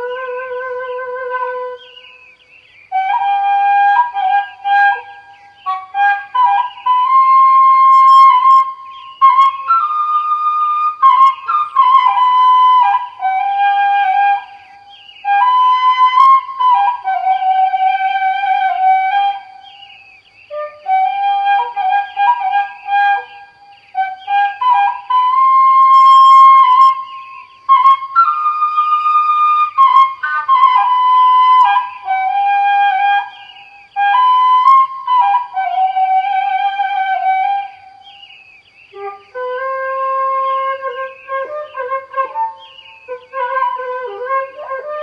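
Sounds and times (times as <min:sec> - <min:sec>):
flute melody: 0:00.0 - 0:38.3, 0:38.9 - 0:45.0.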